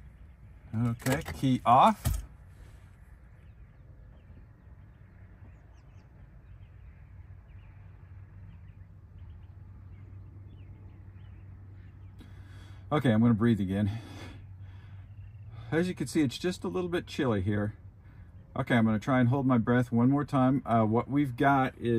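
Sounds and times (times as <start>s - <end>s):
birds chirping and calling: 0.0s - 21.9s
distant road traffic rumble: 0.0s - 21.9s.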